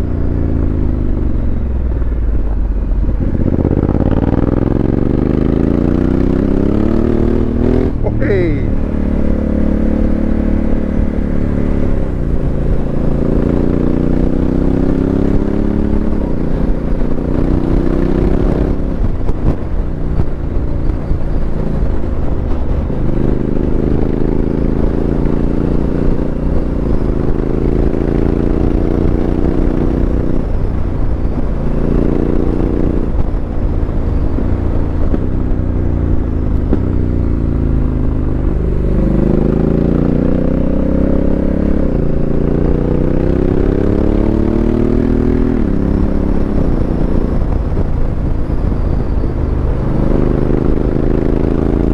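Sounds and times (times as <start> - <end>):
wind noise: 0.0 - 51.9
motorcycle engine revving: 3.0 - 19.8, 21.1 - 51.9.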